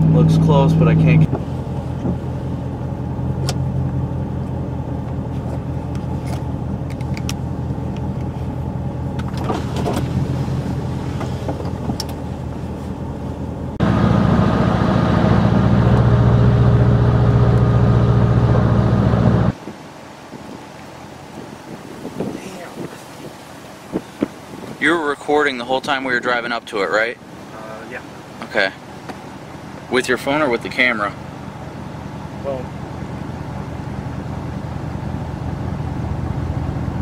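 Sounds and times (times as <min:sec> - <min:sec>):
car engine and road hum: 0:00.0 - 0:37.0.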